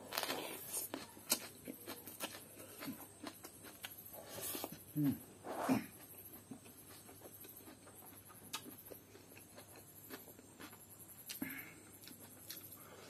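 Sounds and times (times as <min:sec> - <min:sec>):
man chewing: 0:00.0 - 0:13.0.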